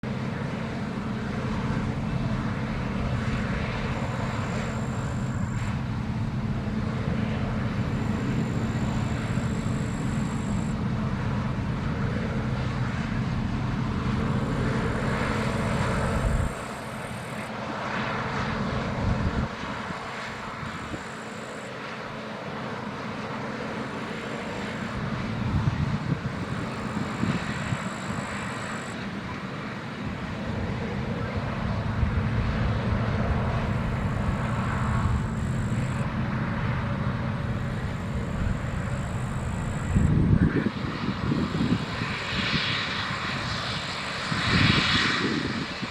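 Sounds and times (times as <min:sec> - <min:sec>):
combine harvester drone: 0:00.0 - 0:45.9.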